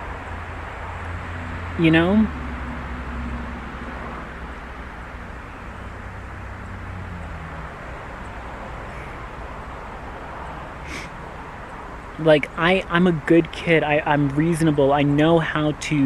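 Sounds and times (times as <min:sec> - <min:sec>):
low hum: 0:00.0 - 0:14.4
outdoor background noise: 0:00.0 - 0:16.0.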